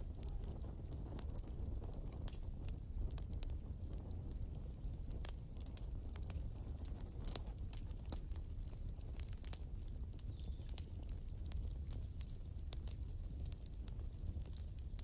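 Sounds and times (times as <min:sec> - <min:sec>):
flames rumbling: 0:00.0 - 0:15.0
wood fire crackling: 0:00.0 - 0:15.0.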